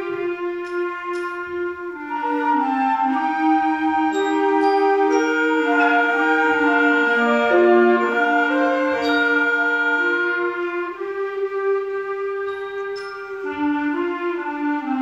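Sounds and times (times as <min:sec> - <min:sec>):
wind band playing held chords: 0:00.0 - 0:15.0.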